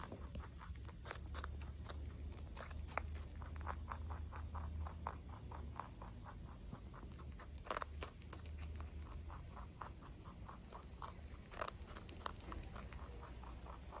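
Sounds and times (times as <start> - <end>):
rabbit chewing crunchy vegetable: 0.0 - 14.0.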